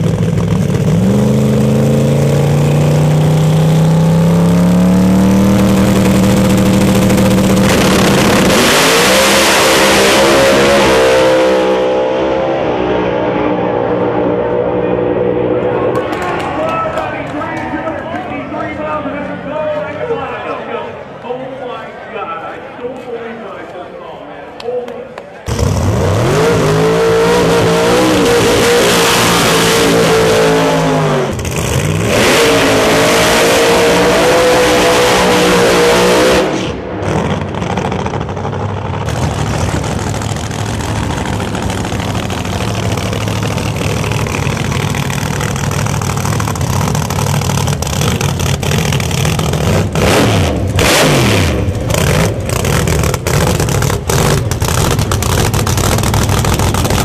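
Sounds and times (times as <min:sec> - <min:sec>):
drag car engine revving: 0:00.0 - 0:19.9, 0:25.5 - 0:57.0.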